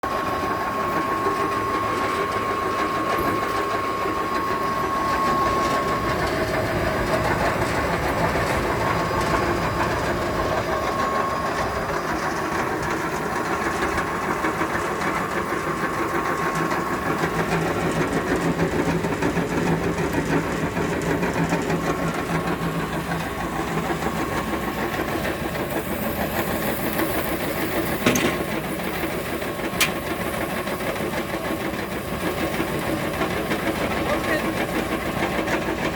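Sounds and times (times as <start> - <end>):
machine drone with whine: 0.0 - 35.9.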